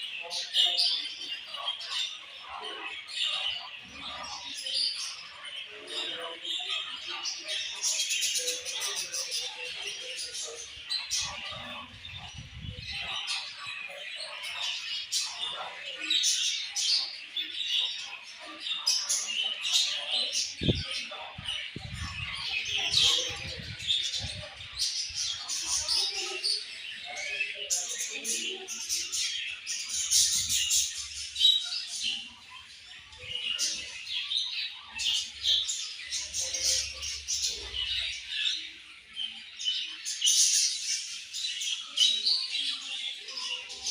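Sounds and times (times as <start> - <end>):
budgerigars chattering and chirping: 0.0 - 43.9.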